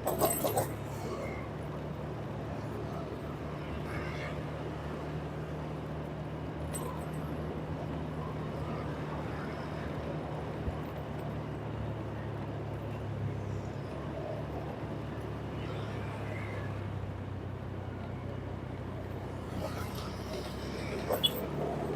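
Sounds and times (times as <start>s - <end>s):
road noise: 0.0s - 21.9s.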